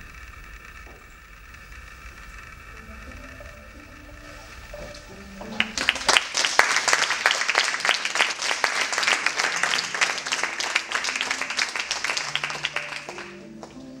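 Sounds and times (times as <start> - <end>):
audience applauding: 1.8 - 14.0.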